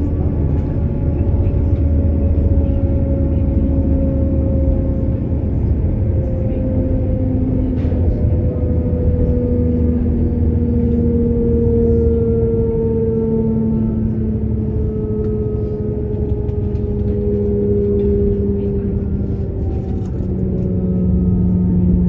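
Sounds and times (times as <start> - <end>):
engine and gearbox whine: 0.0 - 22.0
train running gear rumble: 0.0 - 22.0.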